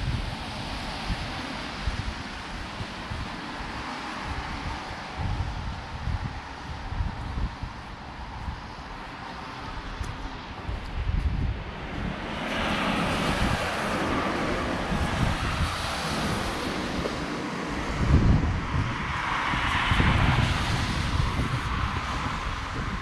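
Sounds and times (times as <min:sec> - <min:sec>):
vehicles passing on road: 0:00.0 - 0:23.0
wind buffeting microphone: 0:00.0 - 0:23.0.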